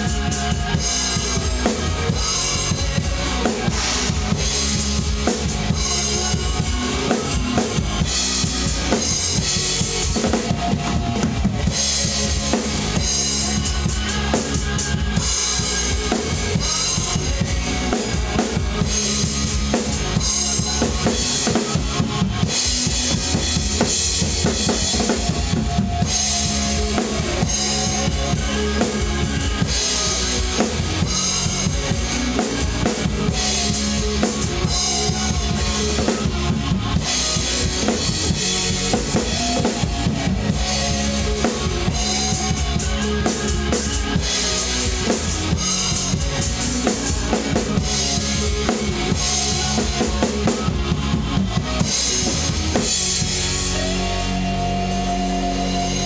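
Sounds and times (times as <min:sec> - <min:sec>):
drum kit playing: 0:00.0 - 0:56.0
rock song recording: 0:00.0 - 0:56.0.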